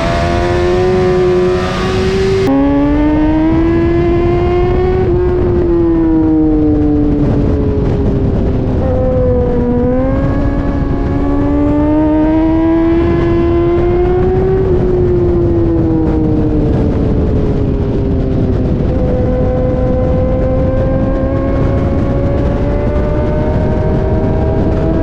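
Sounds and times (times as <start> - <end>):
low rumble: 0.0 - 25.0
motorcycle engine accelerating: 0.0 - 25.0.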